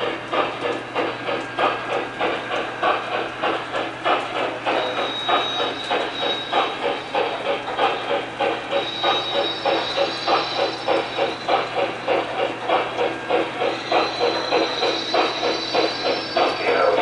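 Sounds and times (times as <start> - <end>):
model train wheels rolling on track: 0.0 - 17.0
rhythmic steam chuff: 0.0 - 17.0.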